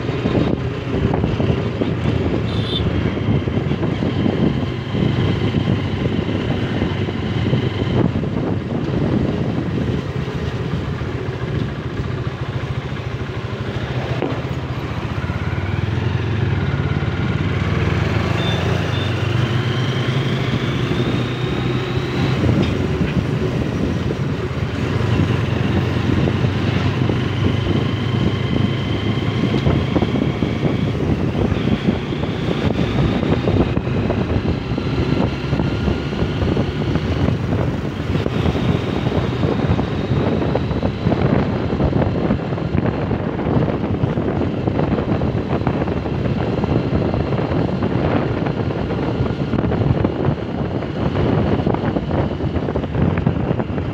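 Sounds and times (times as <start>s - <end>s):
wind buffeting microphone: 0.0s - 18.3s, 19.1s - 53.9s
motorcycle engine running: 0.0s - 53.9s.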